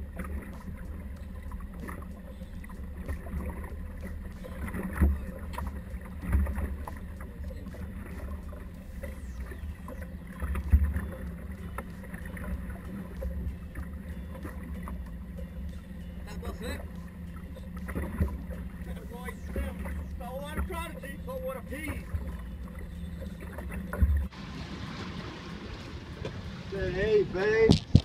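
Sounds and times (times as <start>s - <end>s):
boat engine low rumble: 0.0s - 28.0s.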